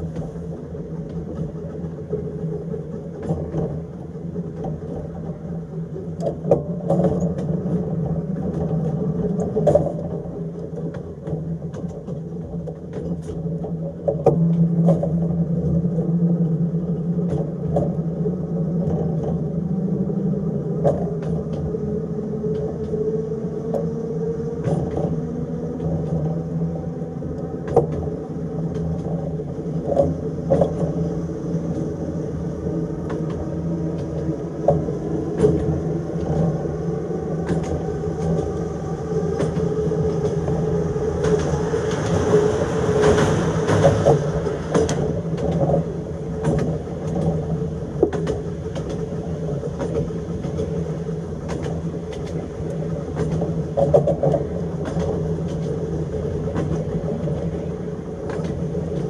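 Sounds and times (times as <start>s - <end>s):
tram rumble and motor hum: 0.0s - 59.0s
wheels clicking on rails: 0.0s - 59.0s.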